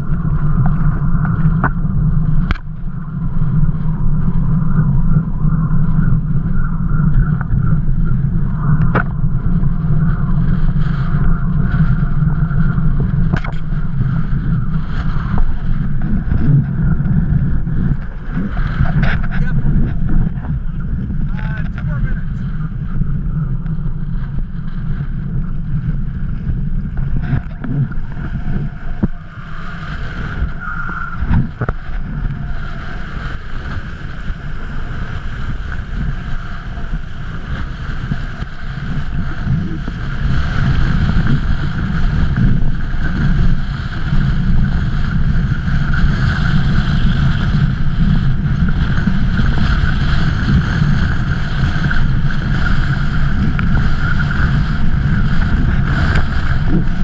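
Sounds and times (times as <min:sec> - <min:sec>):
choppy water rushing: 0:00.0 - 0:57.0
wind buffeting microphone: 0:00.0 - 0:57.0.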